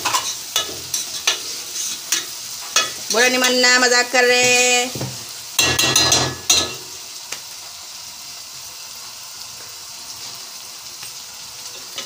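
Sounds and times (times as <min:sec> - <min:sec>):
onions sizzling: 0:00.0 - 0:12.0.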